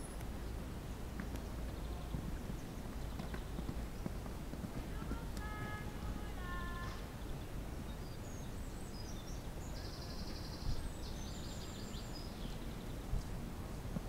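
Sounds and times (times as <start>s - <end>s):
low outdoor rumble: 0.0s - 14.0s
small birds chirping: 0.0s - 14.0s.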